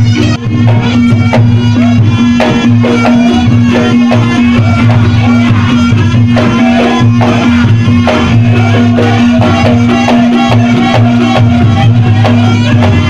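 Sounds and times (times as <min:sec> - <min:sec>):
steady held tone: 0:00.0 - 0:13.0
traditional percussion pulsing: 0:00.0 - 0:13.0
wavering melody: 0:00.0 - 0:13.0.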